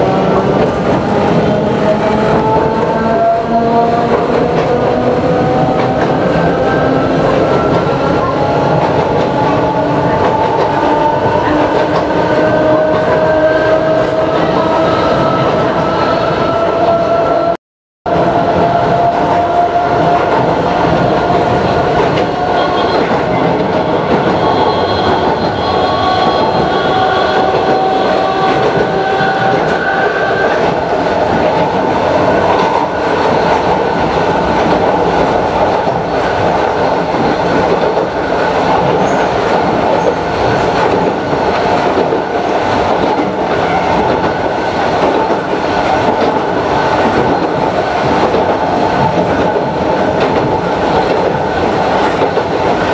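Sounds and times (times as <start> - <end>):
wheels rumbling and clattering on rails: 0.0 - 17.5, 18.1 - 52.9.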